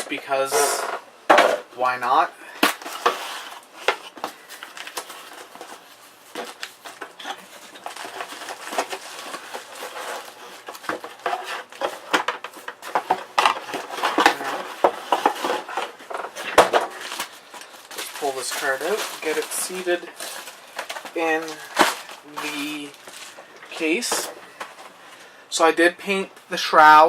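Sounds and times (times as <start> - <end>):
rustling: 2.6 - 25.4.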